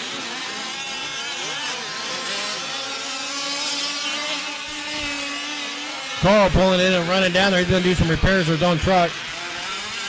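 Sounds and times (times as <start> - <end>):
small two-stroke engines buzzing: 0.0 - 10.0.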